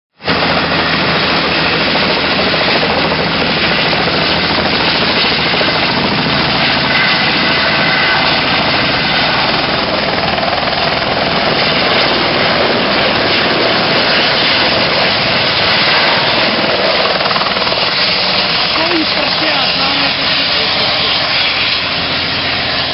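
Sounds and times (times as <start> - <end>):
helicopter rotor and engine: 0.2 - 22.9.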